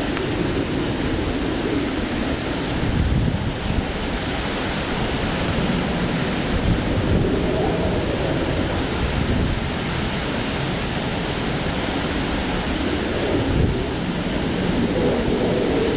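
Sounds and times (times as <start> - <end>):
faint wavering wind howl: 0.0 - 15.9
strong wind blowing: 0.0 - 15.9
wind rumbling on microphone: 0.0 - 15.9.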